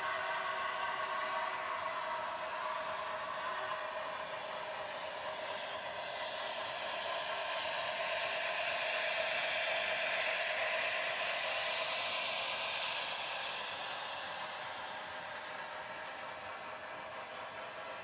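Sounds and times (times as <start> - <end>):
model train whirring on track: 0.0 - 18.0.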